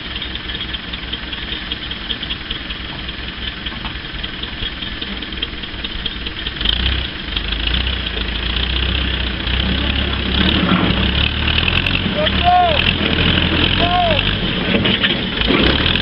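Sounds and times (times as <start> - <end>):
crawler loader engine running: 0.0 - 16.0.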